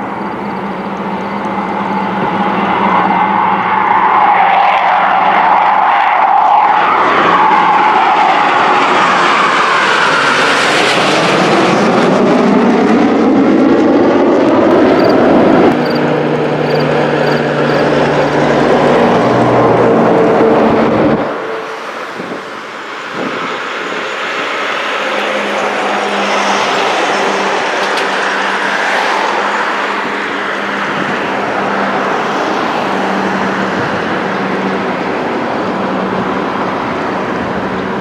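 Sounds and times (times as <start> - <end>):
jets flying past overhead: 0.0 - 38.0
turboprop engines humming: 0.0 - 38.0.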